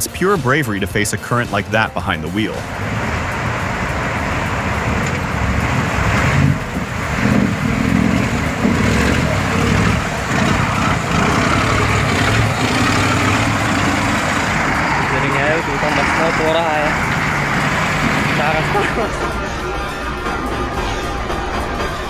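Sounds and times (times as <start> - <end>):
heavy vehicle engine rumbling: 2.2 - 22.0.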